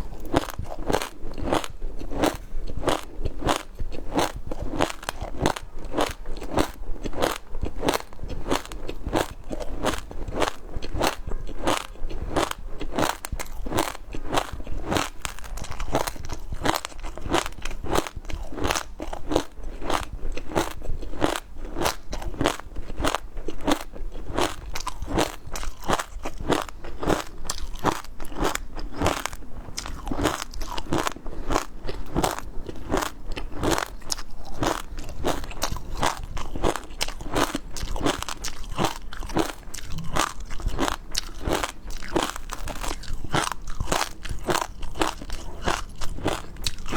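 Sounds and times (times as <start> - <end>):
crunching and wet chewing: 0.0 - 46.9.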